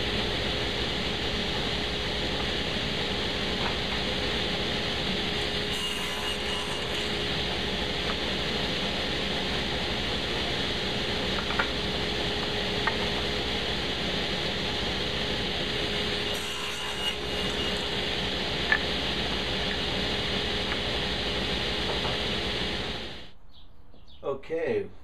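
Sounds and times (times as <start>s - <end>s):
saw cutting wood: 0.0s - 23.2s
steady hum: 0.0s - 23.4s.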